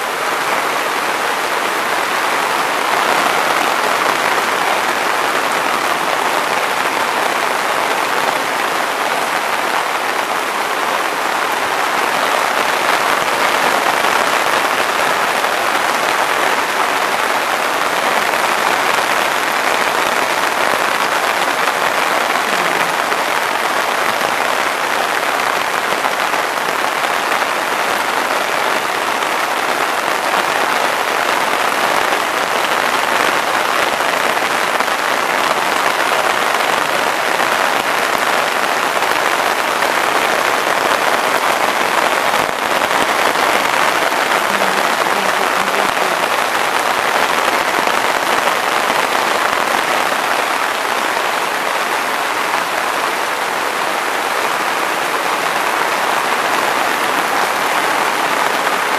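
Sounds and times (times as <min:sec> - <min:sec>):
heavy rain on leaves: 0:00.0 - 0:58.9.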